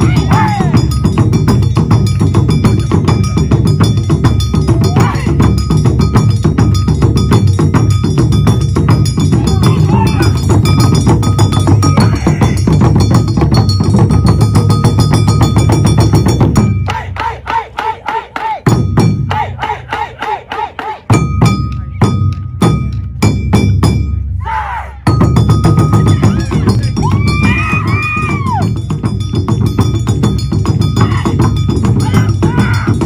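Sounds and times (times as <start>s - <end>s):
ringing metal bell: 0.0s - 17.0s, 21.1s - 24.3s, 25.0s - 33.0s
taiko drums beating: 0.0s - 33.0s.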